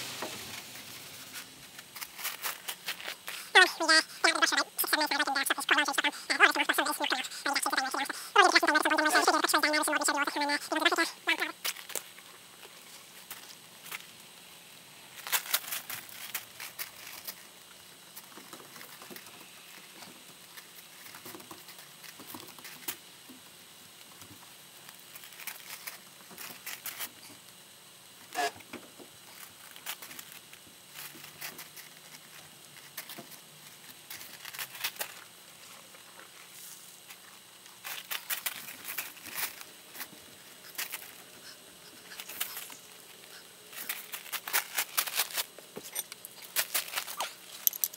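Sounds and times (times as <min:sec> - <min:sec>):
rustling: 0:00.0 - 0:23.1, 0:23.9 - 0:28.6, 0:29.2 - 0:47.9.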